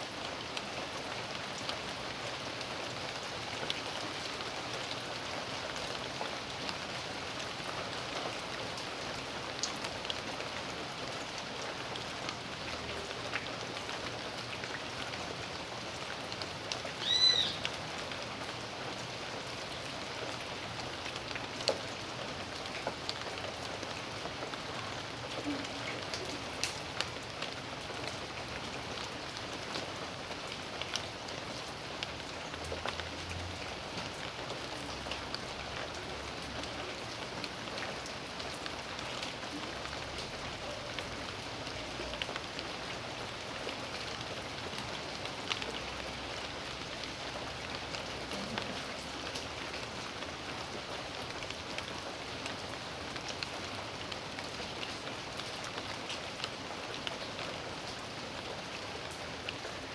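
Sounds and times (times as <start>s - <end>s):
steady rain hiss: 0.0s - 59.9s
raindrops tapping close by: 2.5s - 59.9s.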